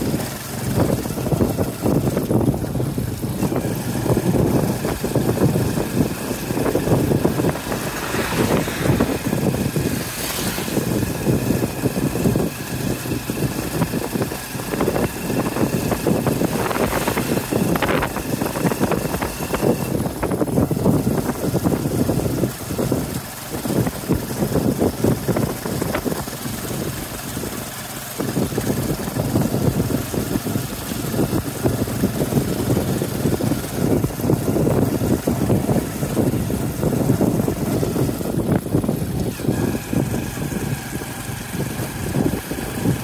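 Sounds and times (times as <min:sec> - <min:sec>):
motorcycle engine cruising: 0:00.0 - 0:43.0
wind and road rumble: 0:00.0 - 0:43.0.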